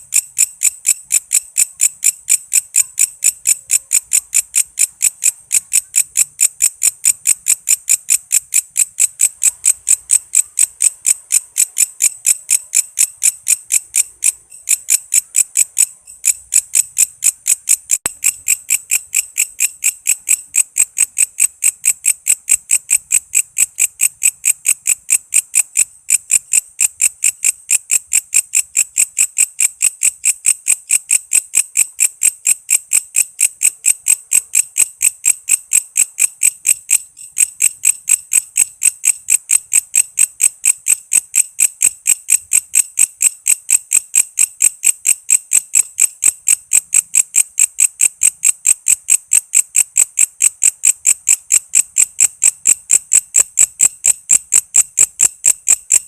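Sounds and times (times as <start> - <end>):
insect chirping: 0.0 - 56.0.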